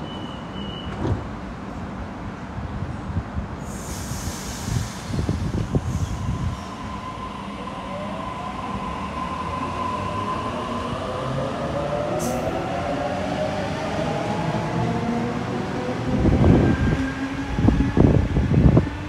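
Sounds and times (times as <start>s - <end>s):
wheels rumbling on rail: 2.7s - 19.0s.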